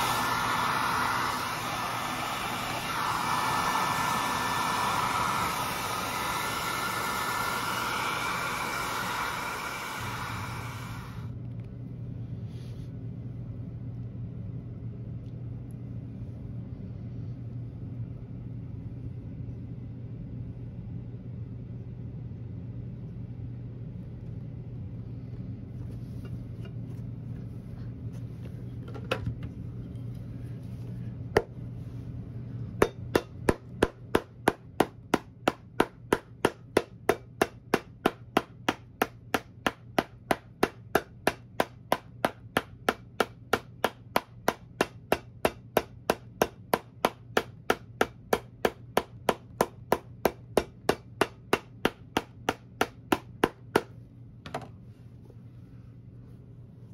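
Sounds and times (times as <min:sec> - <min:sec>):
low steady hum: 0:00.0 - 0:56.9.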